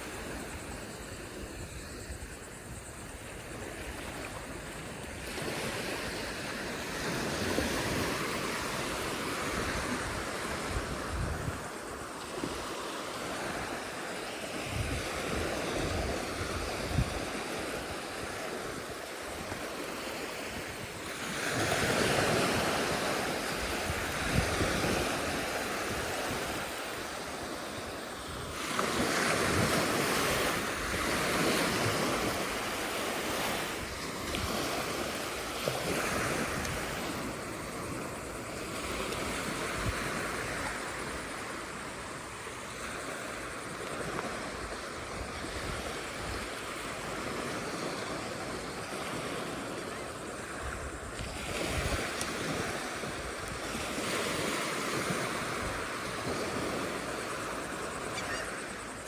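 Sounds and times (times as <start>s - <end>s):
wind buffeting microphone: 0.0s - 42.0s, 43.6s - 59.0s
ocean surf breaking on beach: 0.0s - 59.0s.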